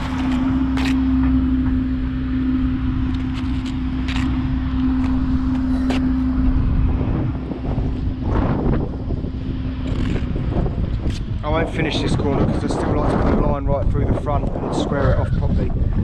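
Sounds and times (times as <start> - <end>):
engine hum: 0.0 - 16.0
wind rumbling on microphone: 0.0 - 16.0.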